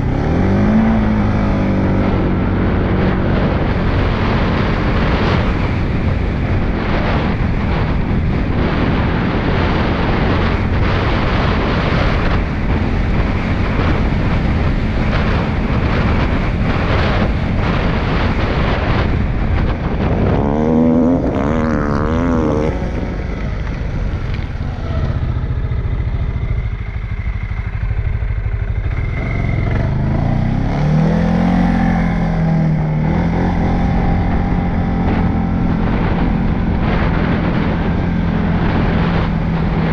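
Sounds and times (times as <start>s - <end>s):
atv engine revving: 0.0s - 39.9s
heavy rushing noise: 0.0s - 39.9s.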